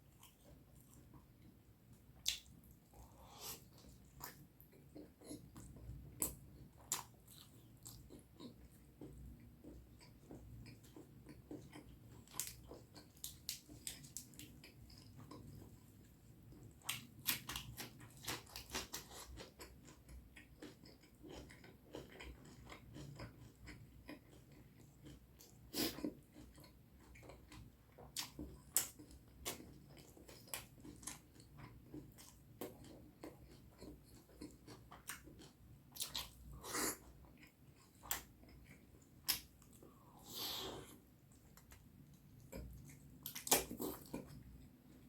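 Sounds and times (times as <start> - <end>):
wet chewing and smacking: 2.2 - 40.0, 40.8 - 45.0.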